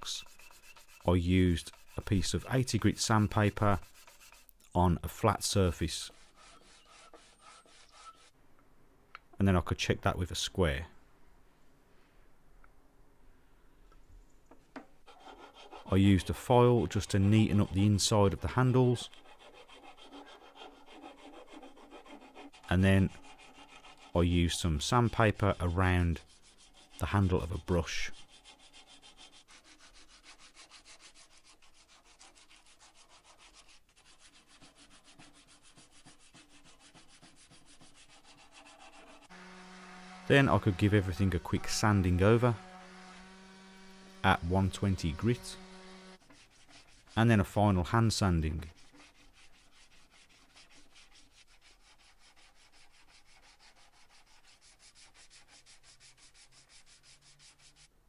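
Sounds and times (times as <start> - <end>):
sandpaper sanding wood: 0.0 - 4.5, 5.2 - 8.3, 15.1 - 57.9.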